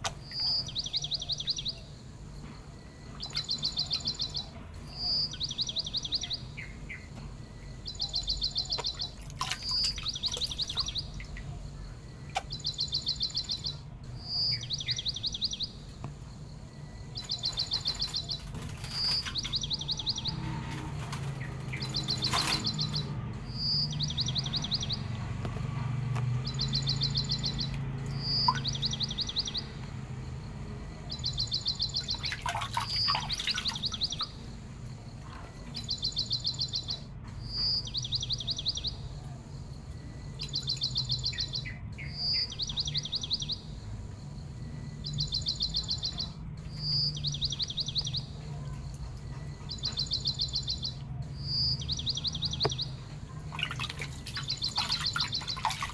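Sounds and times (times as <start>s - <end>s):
low steady hum: 0.0s - 55.9s
songbird trills and whistles: 0.1s - 2.0s, 2.9s - 15.8s, 17.1s - 25.1s, 26.4s - 29.8s, 31.1s - 34.6s, 35.2s - 39.4s, 45.0s - 55.9s.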